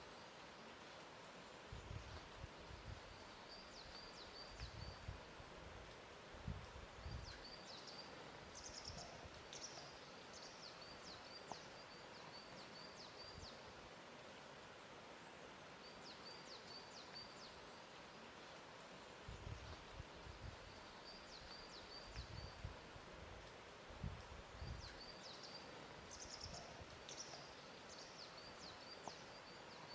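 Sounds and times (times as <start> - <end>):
soft steady hiss: 0.0 - 29.9.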